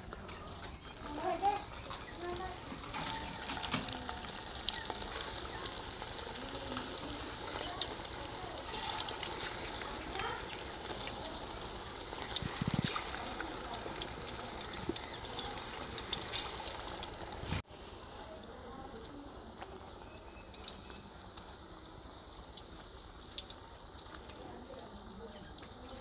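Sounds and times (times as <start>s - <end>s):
fish deep-frying in hot oil: 0.2s - 26.0s.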